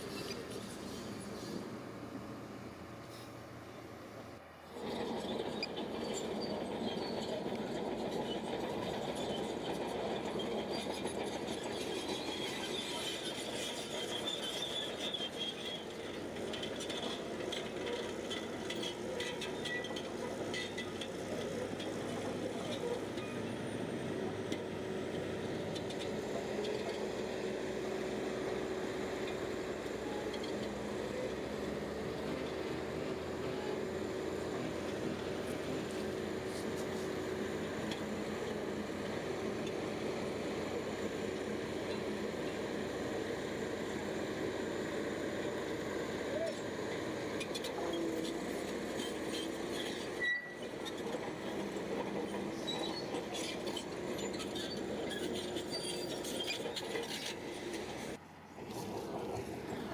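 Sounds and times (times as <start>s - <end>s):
steel tracks squealing and clattering: 0.0s - 2.0s, 4.6s - 59.9s
bulldozer diesel engine: 0.0s - 59.9s.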